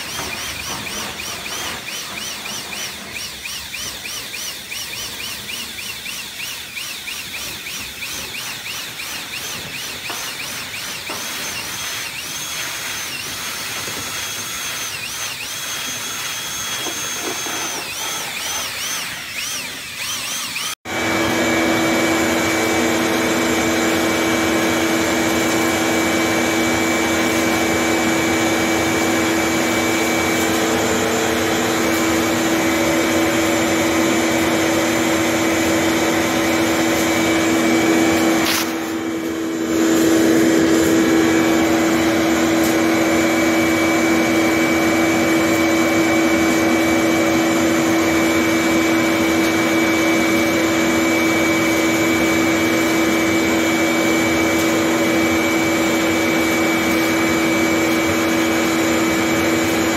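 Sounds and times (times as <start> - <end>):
vacuum motor humming: 0.0 - 59.9.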